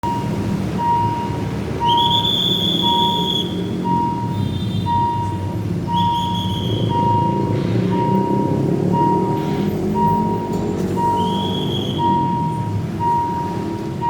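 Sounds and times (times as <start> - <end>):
level-crossing alarm beeping: 0.0 - 14.0
passing train rumble: 0.0 - 14.0.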